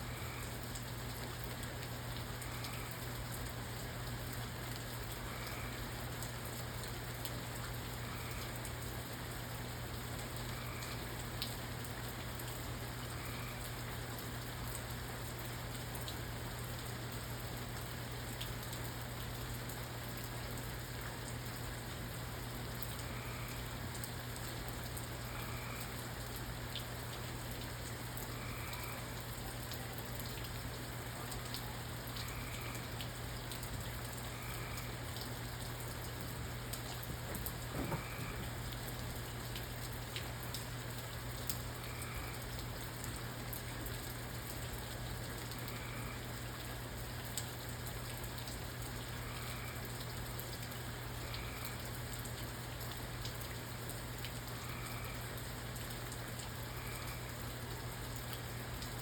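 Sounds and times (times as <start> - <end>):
steady rain on a surface: 0.0 - 59.0
raindrops ticking: 0.1 - 59.0.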